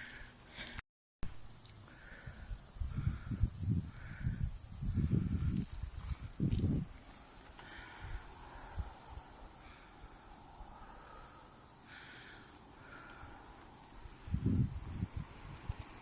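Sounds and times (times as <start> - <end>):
insects chirring: 1.2 - 16.0.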